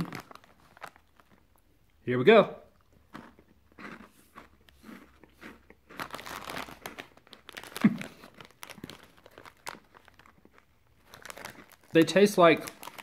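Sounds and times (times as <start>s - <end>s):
crunchy snack being chewed: 0.0s - 1.7s, 2.8s - 12.0s, 12.6s - 13.0s
plastic snack bag crinkling: 0.0s - 2.0s, 2.8s - 13.0s.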